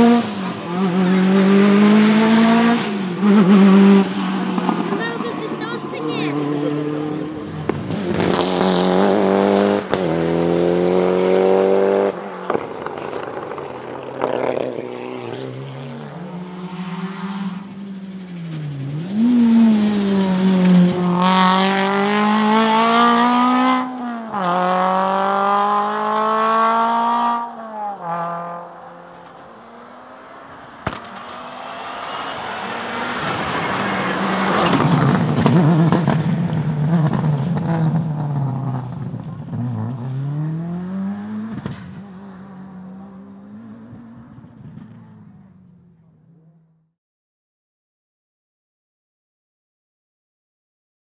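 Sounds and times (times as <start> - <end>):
rally car engine revving: 0.0 - 46.6
rally car passing at full throttle: 0.0 - 46.8.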